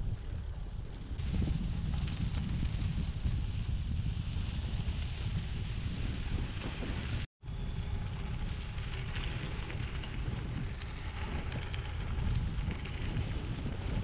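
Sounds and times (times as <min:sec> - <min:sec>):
bike tyres crunching on gravel: 0:00.0 - 0:14.0
wind buffeting microphone: 0:00.0 - 0:14.0.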